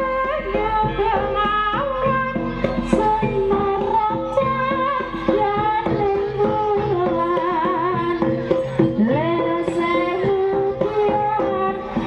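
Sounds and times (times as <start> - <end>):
drum strokes: 0.0 - 12.0
wavering gamelan melody: 0.0 - 12.0.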